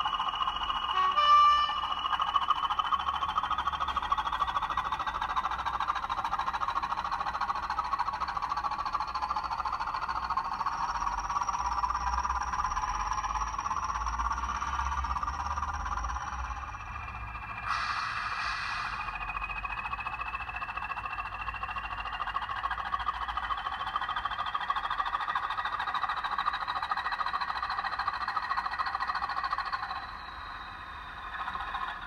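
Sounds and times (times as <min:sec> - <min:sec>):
diesel engine sound from small speaker: 0:00.0 - 0:32.0.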